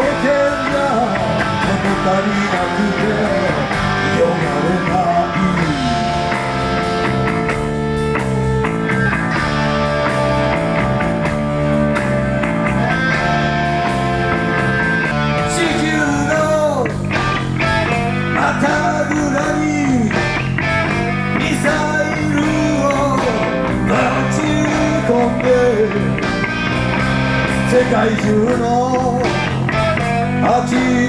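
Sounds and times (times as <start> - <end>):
bass: 0.0 - 31.0
drums: 0.0 - 31.0
electric guitar lead: 0.0 - 31.0.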